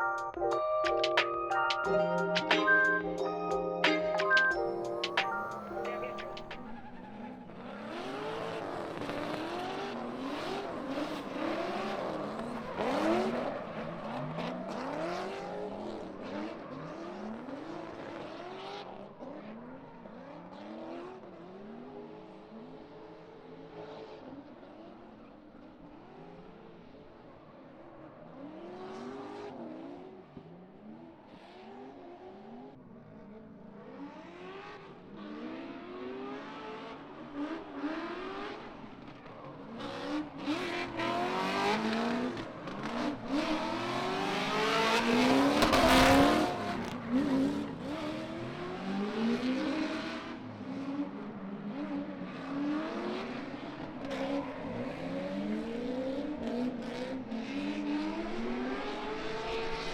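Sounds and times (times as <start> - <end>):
car engines revving hard: 6.5 - 27.0, 28.2 - 59.9.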